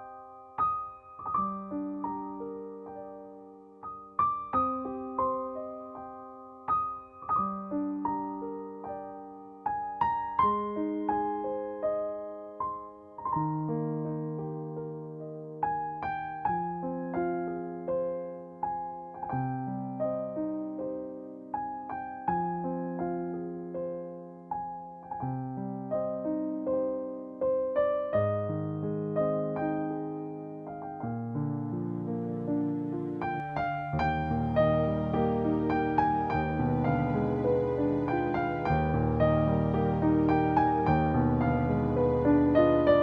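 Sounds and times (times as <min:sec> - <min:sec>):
gentle solo piano: 0:00.0 - 0:43.0.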